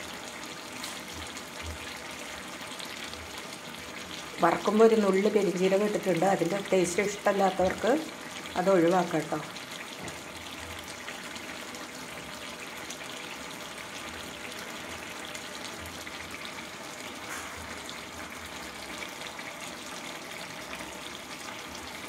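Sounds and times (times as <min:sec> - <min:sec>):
curry bubbling and spitting in a pan: 0:00.0 - 0:22.0.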